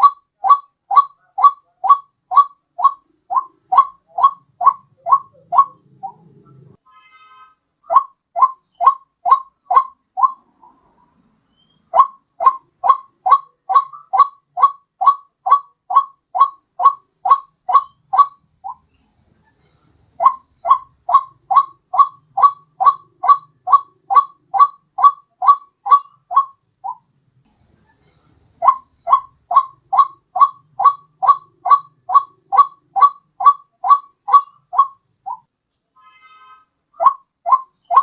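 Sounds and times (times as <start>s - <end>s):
waterhen call: 0.0s - 6.3s, 7.9s - 10.8s, 11.5s - 18.8s, 20.2s - 27.0s, 28.6s - 38.0s.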